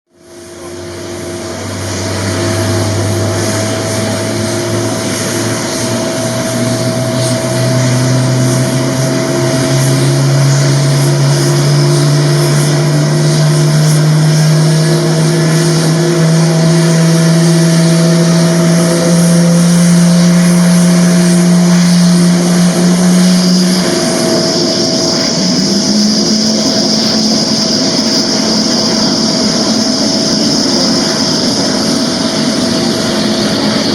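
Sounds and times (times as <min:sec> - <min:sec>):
high engine whine: 0:00.1 - 0:33.9
jet engines drone: 0:00.1 - 0:33.9.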